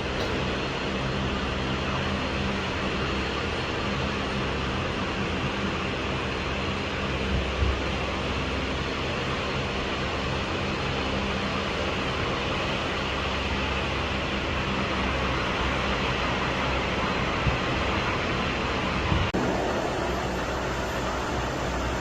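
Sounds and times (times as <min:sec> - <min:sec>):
jet engines rumbling: 0:00.0 - 0:22.0
low hum: 0:00.0 - 0:22.0.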